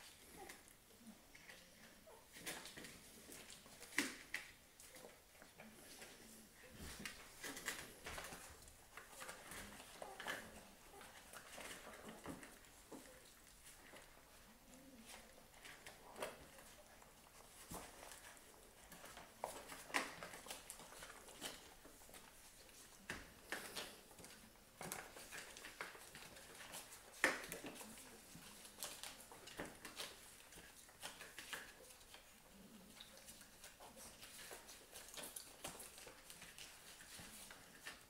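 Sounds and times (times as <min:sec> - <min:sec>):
puppies suckling: 0:00.0 - 0:38.0.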